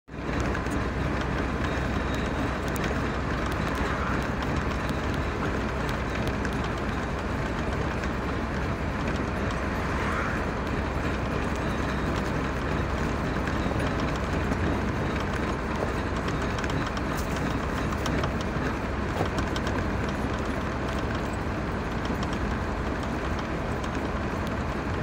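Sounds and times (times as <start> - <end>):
car driving on motorway: 0.1 - 25.0.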